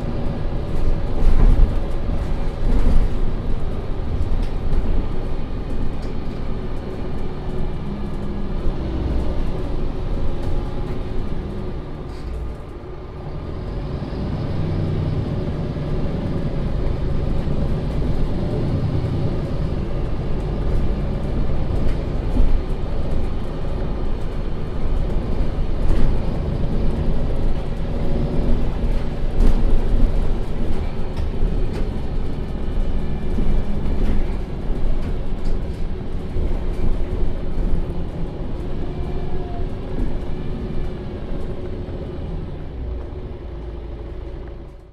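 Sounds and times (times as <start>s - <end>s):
city bus diesel engine: 0.0s - 44.9s
road noise: 0.0s - 44.9s.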